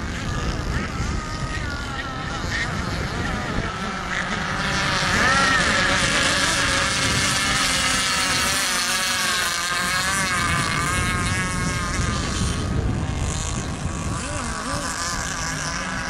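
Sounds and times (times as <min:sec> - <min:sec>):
model boat engines whining: 0:00.0 - 0:16.0.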